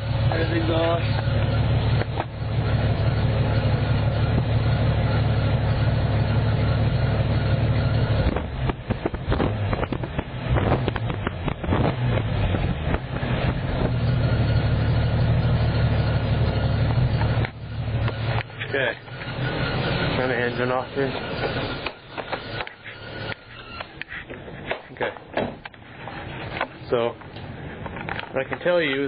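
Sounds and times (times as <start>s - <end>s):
car exhaust idling: 0.0s - 29.0s.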